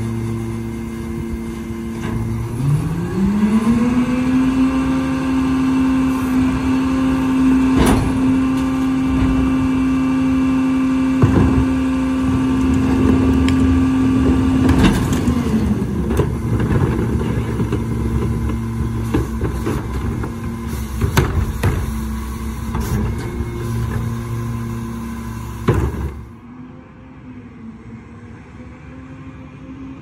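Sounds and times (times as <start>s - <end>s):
trash carts banging and clattering: 0.0s - 26.4s
garbage truck engine droning: 0.0s - 30.0s.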